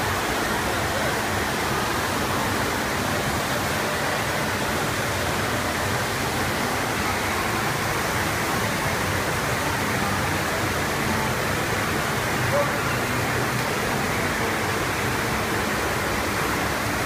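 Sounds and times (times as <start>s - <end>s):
rushing pumped water: 0.0s - 17.0s.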